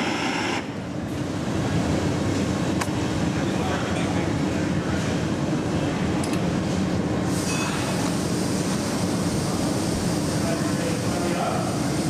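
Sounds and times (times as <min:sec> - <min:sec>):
gas furnace burner roaring: 0:00.0 - 0:12.0.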